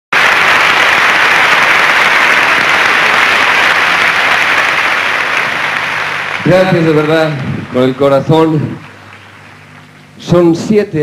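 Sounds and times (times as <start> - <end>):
audience applauding: 0.1 - 10.1.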